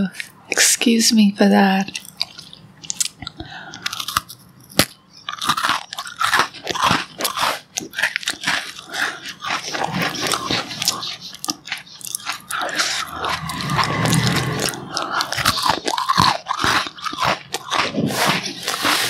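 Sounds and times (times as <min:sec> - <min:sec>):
biscuits being bitten and chewed: 0:01.7 - 0:19.0.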